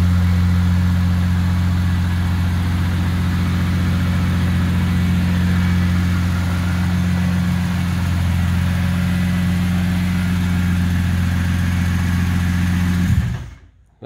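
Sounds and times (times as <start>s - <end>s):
car engine idling: 0.0s - 13.7s.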